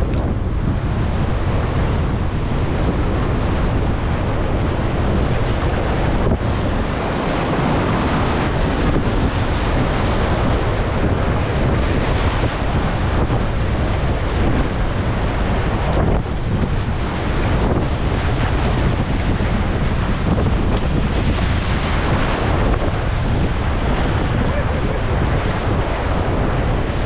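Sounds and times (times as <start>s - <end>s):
whitewater rapids rushing: 0.0s - 27.0s
wind buffeting microphone: 0.0s - 27.0s.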